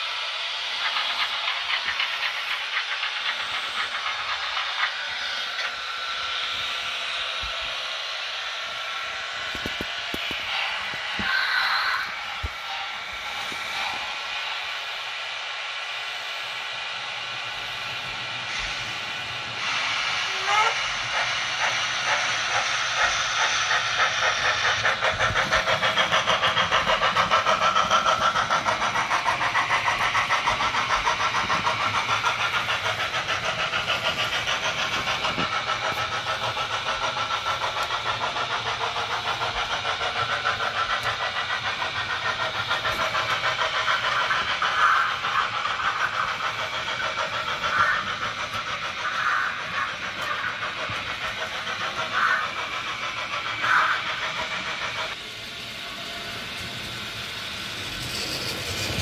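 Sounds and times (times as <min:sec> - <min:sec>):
model steam locomotive chuffing: 0:00.0 - 0:59.0.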